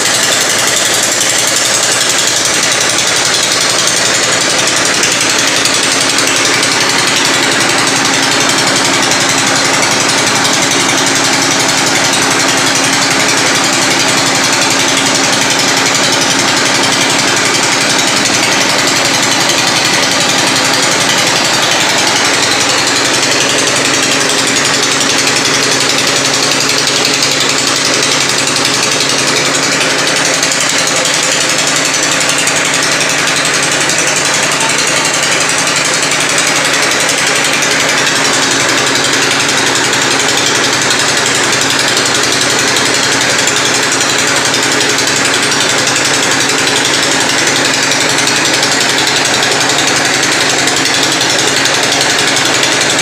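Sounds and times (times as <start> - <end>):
rock drill hammering: 0.0 - 53.0
steady machine hum: 0.0 - 53.0.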